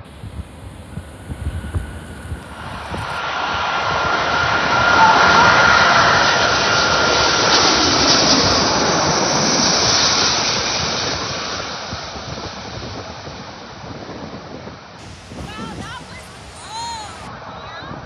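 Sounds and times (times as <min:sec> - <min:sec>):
jet airliner passing overhead: 0:00.0 - 0:13.8, 0:14.8 - 0:17.9.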